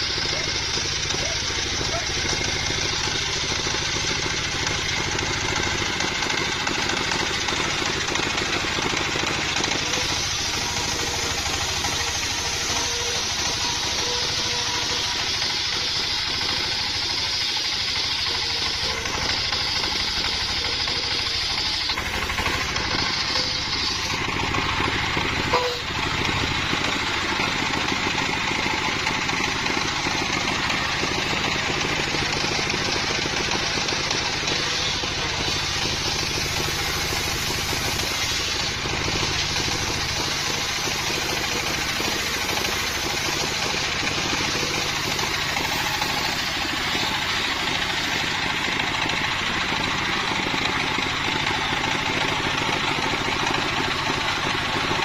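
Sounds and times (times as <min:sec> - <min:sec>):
engine hum: 0:00.0 - 0:55.0
saw blade cutting wood: 0:00.0 - 0:55.0.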